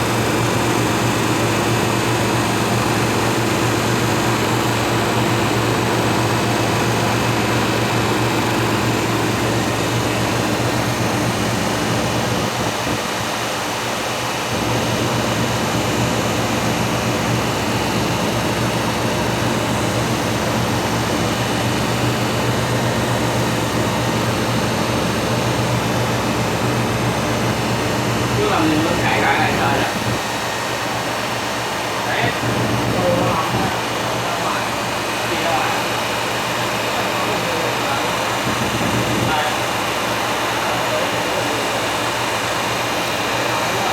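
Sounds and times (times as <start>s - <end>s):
vacuum pump running: 0.0s - 43.9s.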